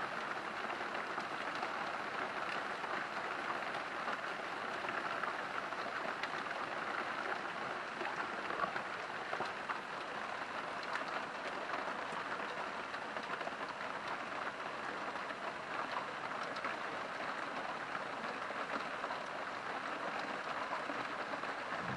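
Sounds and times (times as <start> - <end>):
raindrops ticking on surfaces: 0.0 - 21.9
steady rain falling: 0.0 - 21.9.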